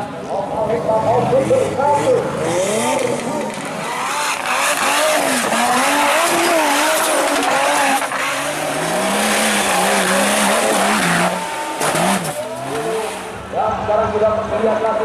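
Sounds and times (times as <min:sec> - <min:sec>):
engine revving: 0:01.1 - 0:13.6.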